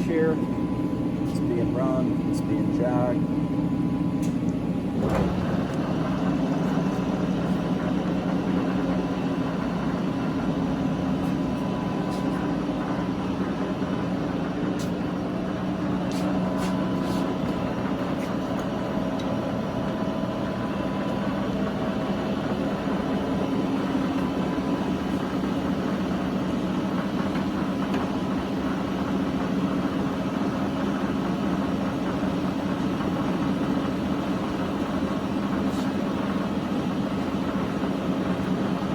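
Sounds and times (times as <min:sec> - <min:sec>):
lathe motor humming: 0:00.0 - 0:38.9.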